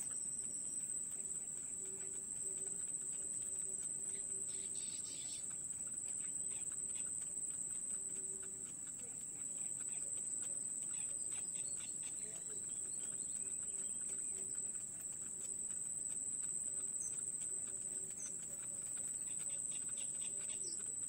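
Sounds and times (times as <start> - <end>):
bird chicks chirping faintly: 0.0 - 21.0.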